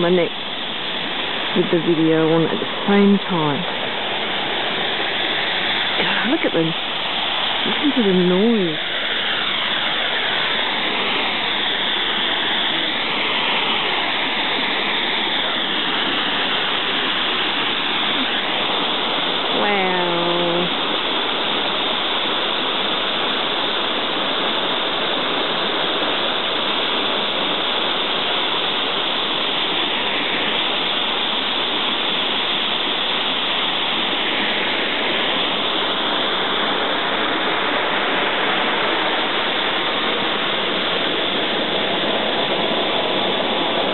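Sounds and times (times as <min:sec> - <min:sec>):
waterfall rushing over rocks: 0:00.0 - 0:43.9.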